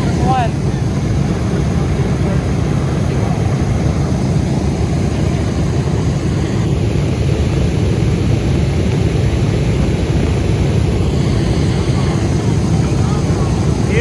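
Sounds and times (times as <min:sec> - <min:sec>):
aircraft engines rumbling: 0:00.0 - 0:14.0.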